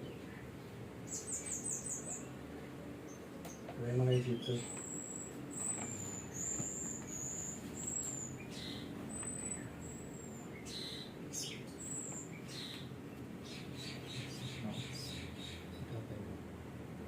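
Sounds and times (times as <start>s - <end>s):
low steady background hum: 0.0s - 17.0s
small bird chirping: 1.0s - 2.4s, 3.0s - 16.0s.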